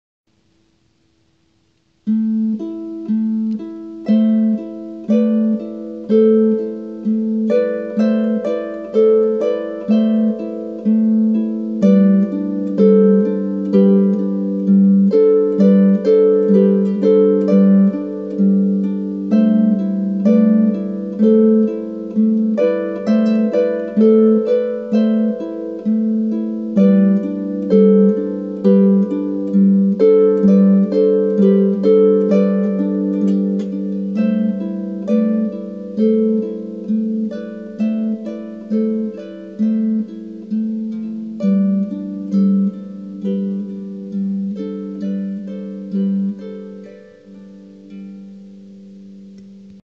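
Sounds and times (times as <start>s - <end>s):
slow harp melody: 0.3s - 49.8s.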